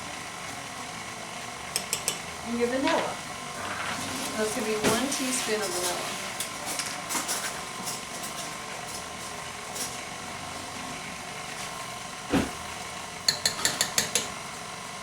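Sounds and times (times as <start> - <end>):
electric mixer beating dough: 0.0 - 15.0.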